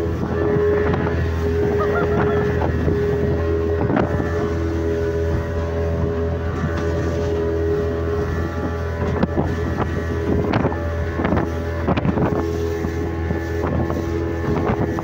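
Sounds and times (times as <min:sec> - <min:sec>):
hull slapping through water: 0:00.0 - 0:15.0
motorboat engine running: 0:00.0 - 0:15.0
wind on microphone: 0:00.0 - 0:15.0.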